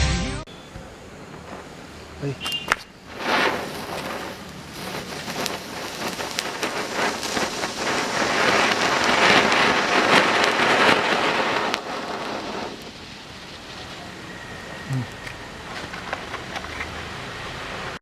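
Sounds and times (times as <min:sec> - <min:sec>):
firework fountain hissing: 0:00.6 - 0:18.0
crackles of sparks: 0:01.2 - 0:18.0.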